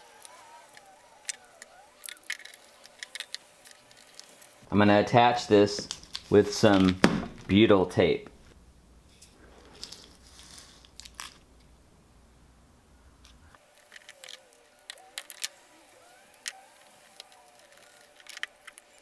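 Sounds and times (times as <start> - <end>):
tape crackling and ticking: 0.0 - 4.7, 5.7 - 7.5, 8.2 - 11.7, 13.2 - 19.0.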